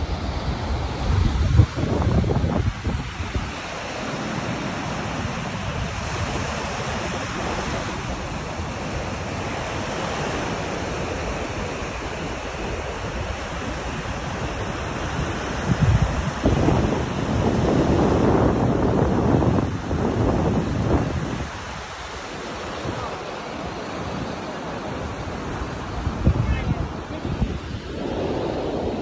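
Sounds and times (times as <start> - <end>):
waves washing onto sand: 0.0 - 29.0
wind buffeting microphone: 0.0 - 29.0.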